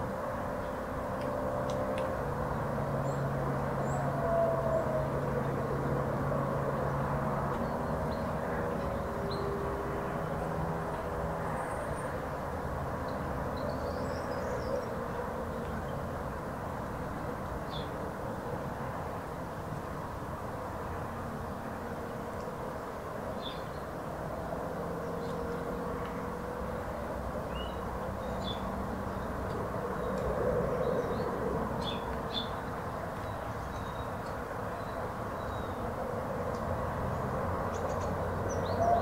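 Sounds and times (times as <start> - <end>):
engine drone: 0.0 - 39.0.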